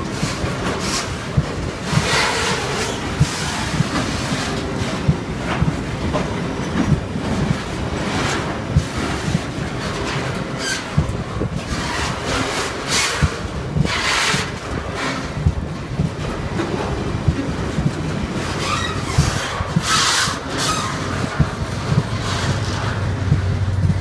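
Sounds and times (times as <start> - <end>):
squealing wheel and rail noise: 0.0 - 6.8, 7.8 - 24.0
low locomotive engine drone: 0.0 - 24.0
train wheels knocking over rail joints: 0.0 - 24.0.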